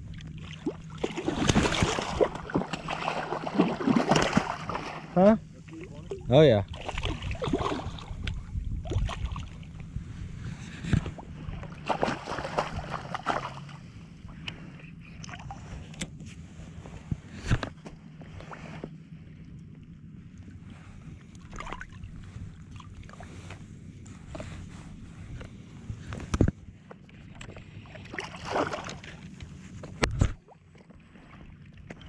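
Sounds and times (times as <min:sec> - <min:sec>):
water sloshing and splashing: 0:00.0 - 0:10.0, 0:10.6 - 0:14.4, 0:15.1 - 0:16.0, 0:17.5 - 0:25.2, 0:27.0 - 0:32.0.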